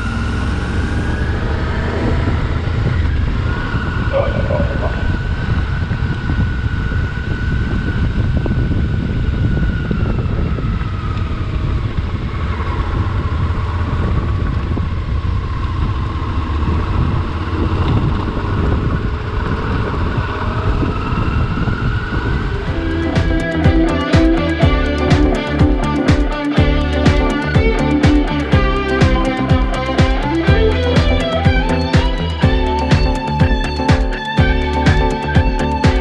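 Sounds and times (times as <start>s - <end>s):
motorcycle engine whine: 0.0s - 36.0s
wind noise on microphone: 0.0s - 36.0s.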